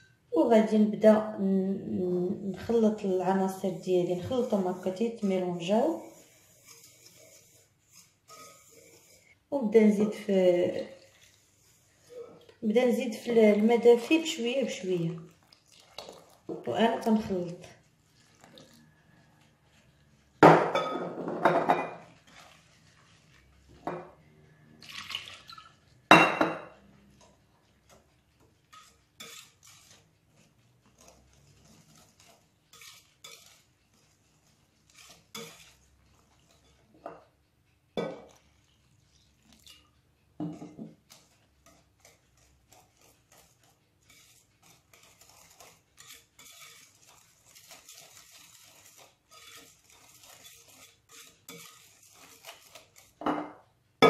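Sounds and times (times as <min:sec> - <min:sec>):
whisk scraping ceramic bowl: 0:02.0 - 0:53.7.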